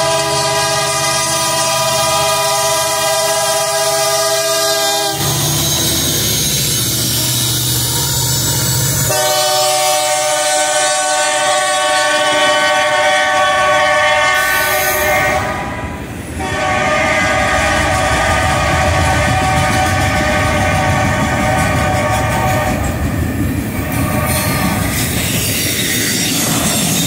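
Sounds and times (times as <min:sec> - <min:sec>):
locomotive horn: 0:00.0 - 0:23.0, 0:23.8 - 0:25.2.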